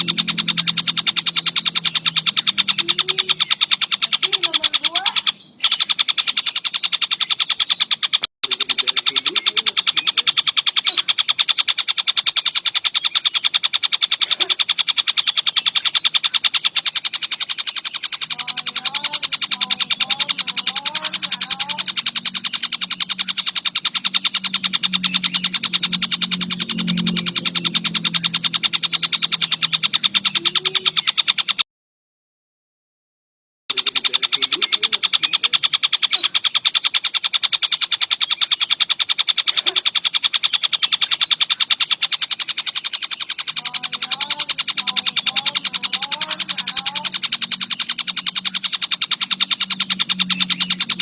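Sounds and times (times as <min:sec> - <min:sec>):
faint low bird calls: 0:00.0 - 0:31.6, 0:33.7 - 0:51.0
kingfisher rattling trill: 0:00.0 - 0:31.6, 0:33.7 - 0:51.0.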